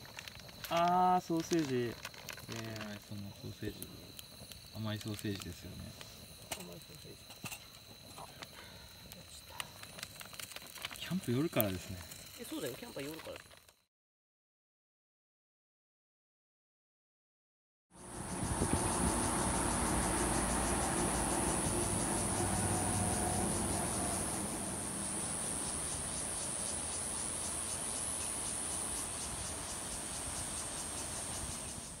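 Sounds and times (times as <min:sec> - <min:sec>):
insects buzzing: 0:00.0 - 0:13.8, 0:18.0 - 0:32.0.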